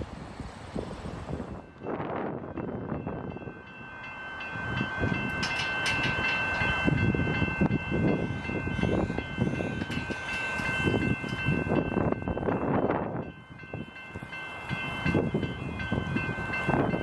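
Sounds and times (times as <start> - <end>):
level crossing bells ringing: 2.9 - 17.0.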